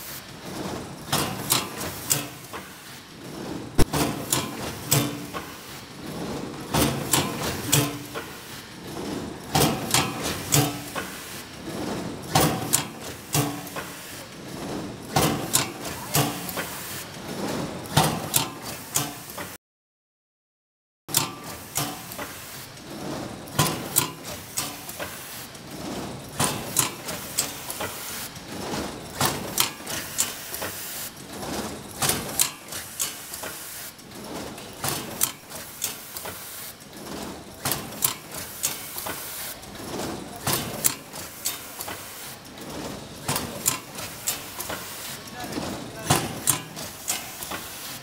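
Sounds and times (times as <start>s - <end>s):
machine clatter and hiss: 0.0s - 19.6s, 21.1s - 48.0s
packing machine clacks: 0.1s - 19.6s, 21.1s - 48.0s.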